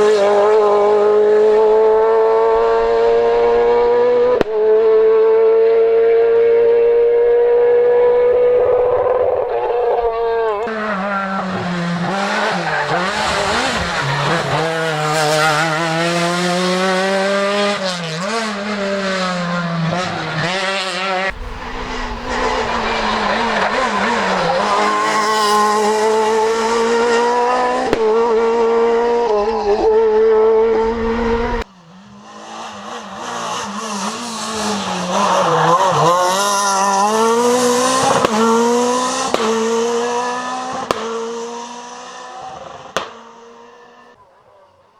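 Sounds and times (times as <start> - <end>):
rally car engine revving: 0.0 - 44.2.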